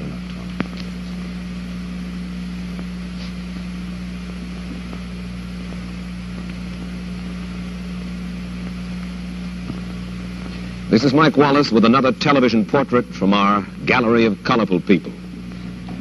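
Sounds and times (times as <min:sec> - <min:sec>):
electrical hum: 0:00.0 - 0:16.0
even hiss: 0:00.0 - 0:16.0
low buzz: 0:00.0 - 0:16.0.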